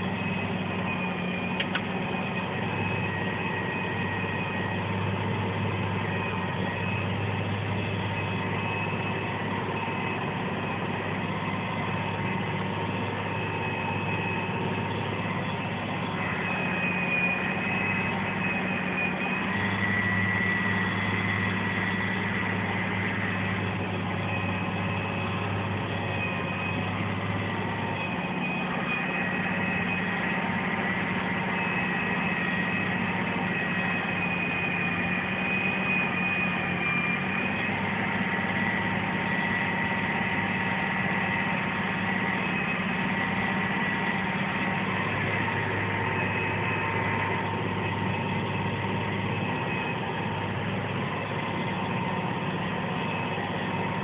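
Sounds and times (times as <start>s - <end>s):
high whine: 0.0s - 54.0s
tractor engine running: 0.0s - 54.0s.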